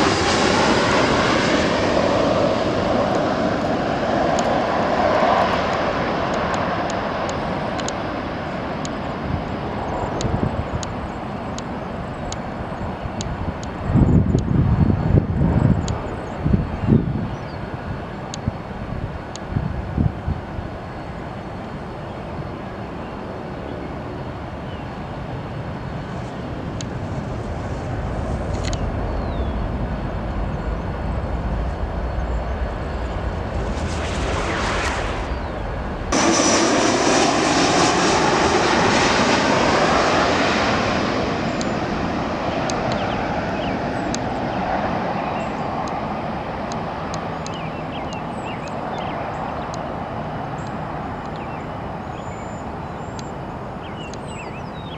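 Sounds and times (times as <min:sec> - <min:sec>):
jet plane passing: 0:00.0 - 0:54.9.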